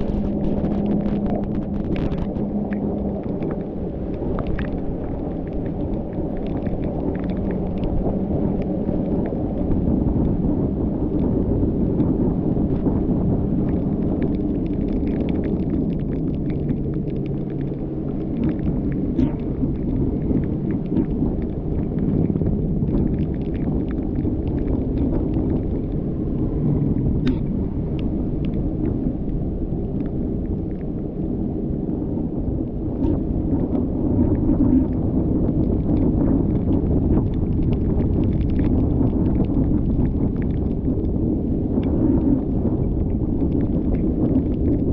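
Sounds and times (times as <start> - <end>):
raindrops ticking on car: 0.0 - 27.4, 34.3 - 44.9.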